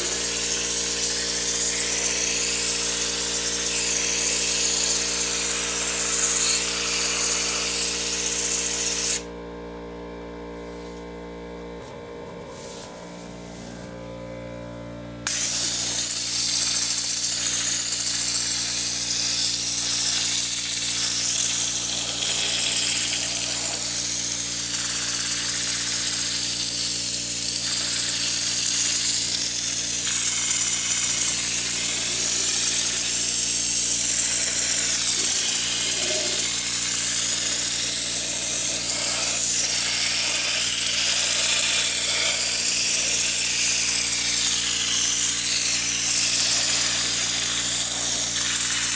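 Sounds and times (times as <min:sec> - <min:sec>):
compressed air spray hissing: 0:00.0 - 0:09.3, 0:15.3 - 0:48.9.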